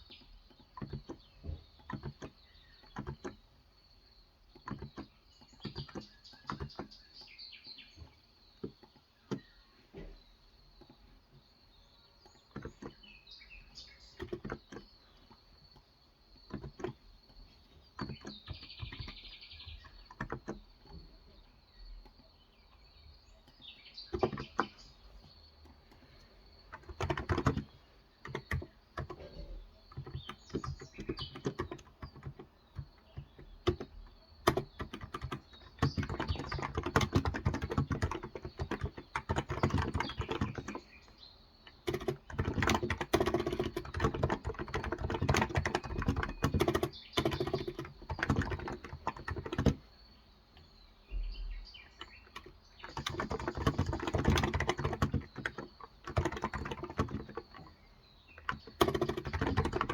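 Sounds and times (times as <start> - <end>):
typing on keyboard: 0.0 - 7.3, 7.9 - 9.6, 12.2 - 21.4, 23.4 - 50.0, 52.0 - 59.9
birds chirping: 0.0 - 59.9.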